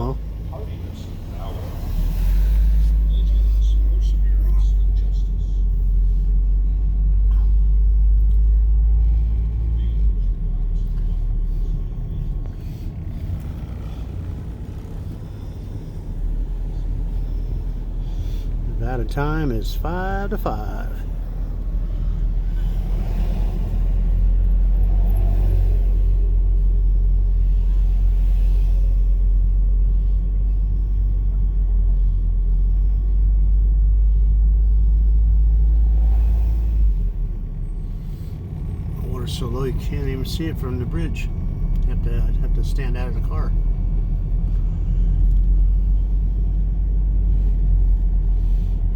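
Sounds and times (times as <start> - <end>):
road and engine rumble: 0.0 - 48.9.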